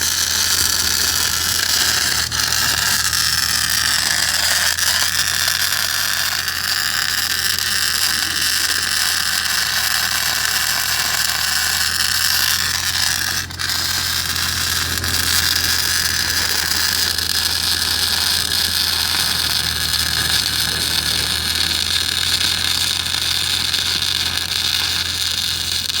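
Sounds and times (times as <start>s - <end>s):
welding arc frying hiss: 0.0s - 26.0s.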